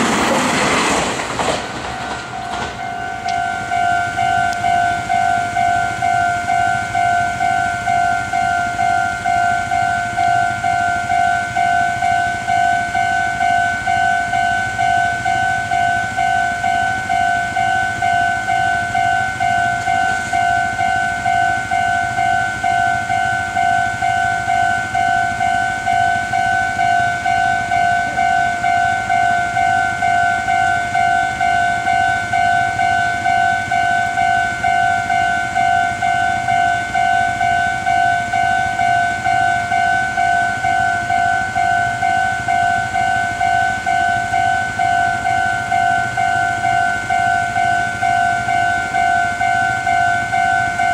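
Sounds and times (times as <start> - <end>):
level crossing alarm ringing: 1.4 - 50.9.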